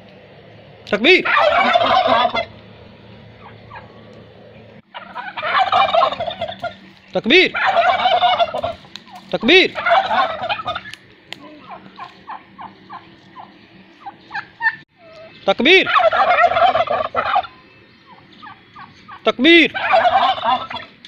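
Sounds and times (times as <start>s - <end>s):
turkeys gobbling: 0.9s - 21.0s.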